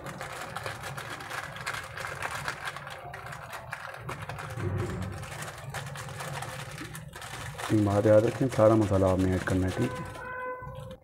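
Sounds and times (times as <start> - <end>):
foil packet crinkling: 0.0 - 11.0.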